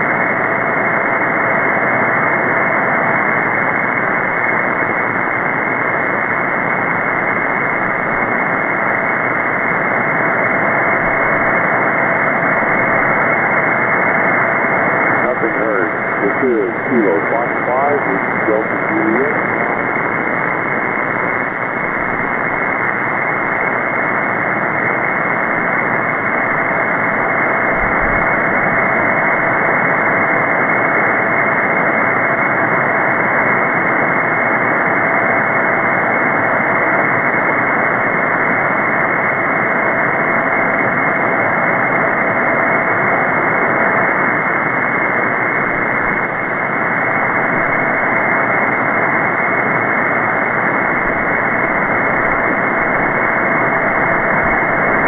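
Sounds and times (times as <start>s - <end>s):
shortwave radio hiss: 0.0s - 55.0s.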